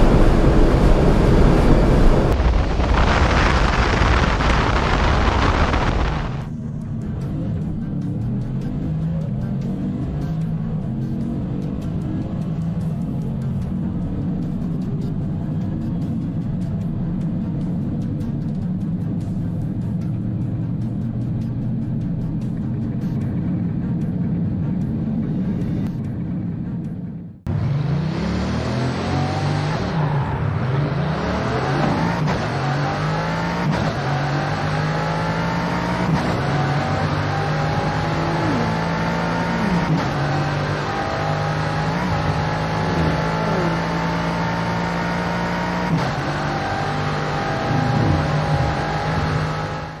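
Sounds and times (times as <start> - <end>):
car engine accelerating hard: 0.0 - 50.0.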